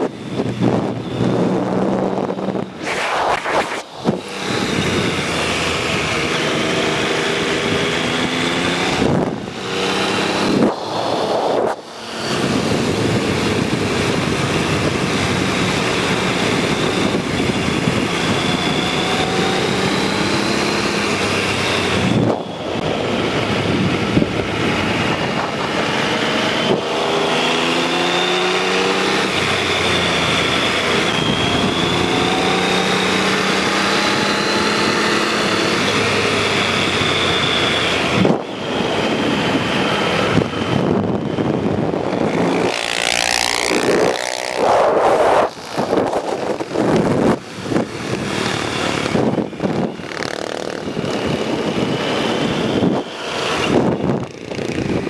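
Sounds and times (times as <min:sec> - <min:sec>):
steady rush of noise: 0:00.0 - 0:27.4, 0:35.9 - 0:55.0
engine running: 0:00.0 - 0:55.0.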